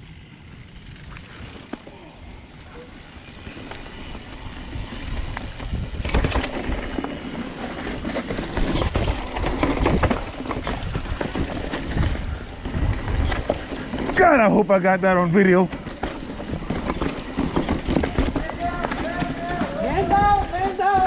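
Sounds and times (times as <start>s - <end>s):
wind rumbling on microphone: 0.0s - 14.3s, 15.7s - 21.0s
bike rattling over rocks: 0.0s - 21.0s
mountain bike on rocky trail: 0.0s - 21.0s.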